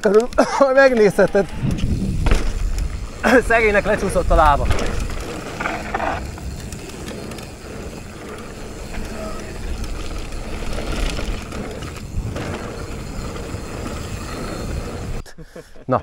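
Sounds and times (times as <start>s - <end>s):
fast clicking: 0.0s - 15.1s
mechanical rattle: 0.0s - 15.2s
mountain bike rolling on trail: 0.0s - 15.3s
low rumble: 1.4s - 15.2s.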